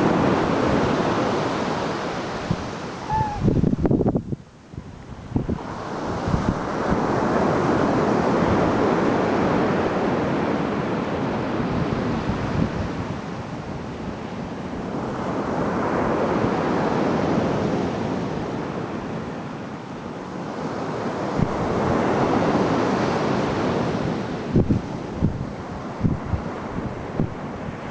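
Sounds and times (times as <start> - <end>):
wind on microphone: 0.0 - 10.2, 11.5 - 18.2, 21.3 - 27.9.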